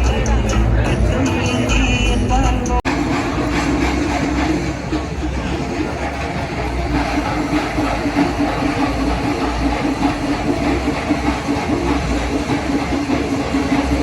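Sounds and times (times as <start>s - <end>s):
percussion ensemble drumming: 0.0s - 14.0s.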